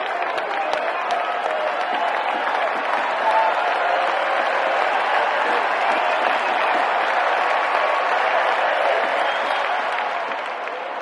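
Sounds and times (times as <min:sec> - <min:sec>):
crowd din: 0:00.0 - 0:11.0
crowd shouts: 0:00.0 - 0:11.0
scattered clapping: 0:00.0 - 0:11.0.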